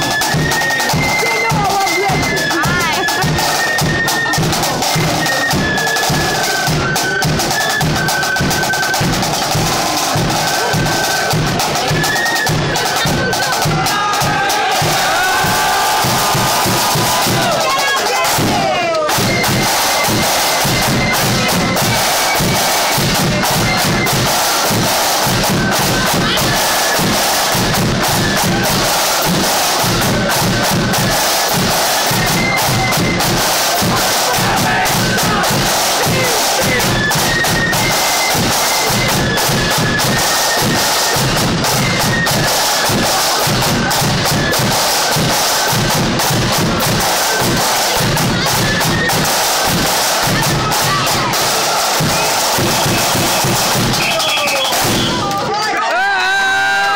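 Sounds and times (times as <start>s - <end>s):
high flute melody: 0.0s - 46.0s, 46.7s - 56.9s
snare and bass drum beats: 0.0s - 56.9s.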